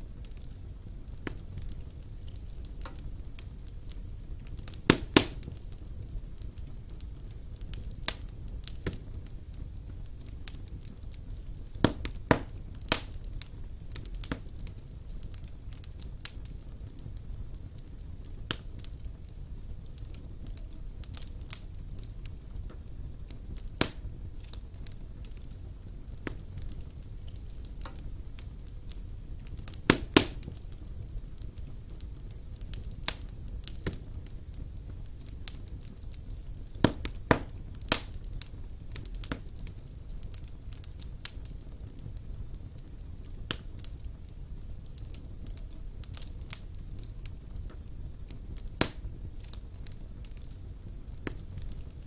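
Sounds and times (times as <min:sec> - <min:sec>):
low rumble of flames: 0:00.0 - 0:52.0
sharp pops of burning wood: 0:00.0 - 0:52.0
wood fire crackling: 0:00.0 - 0:52.0.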